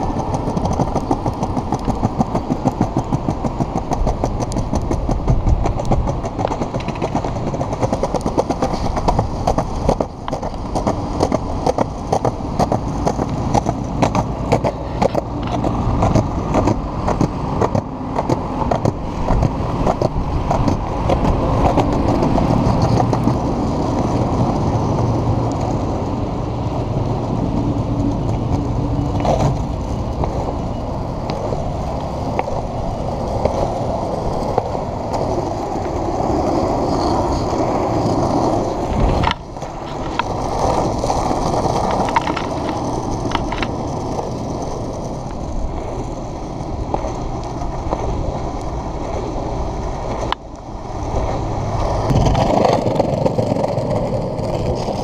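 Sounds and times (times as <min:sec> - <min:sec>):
skateboard wheels rumbling: 0:00.0 - 0:55.0
wheels clicking over paving joints: 0:00.0 - 0:55.0.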